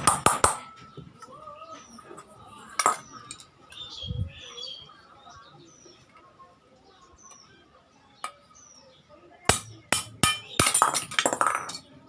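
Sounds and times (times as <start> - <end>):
small birds chirping: 0.6 - 11.2.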